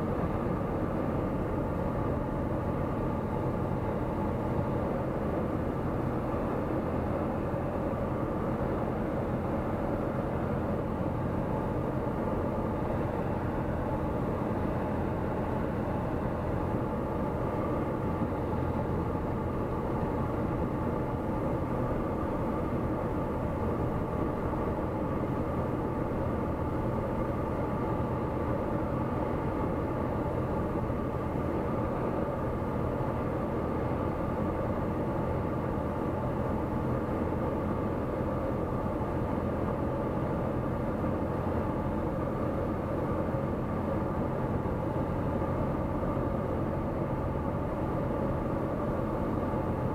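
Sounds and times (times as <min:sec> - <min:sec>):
light aircraft engine drone: 0:00.0 - 0:49.9.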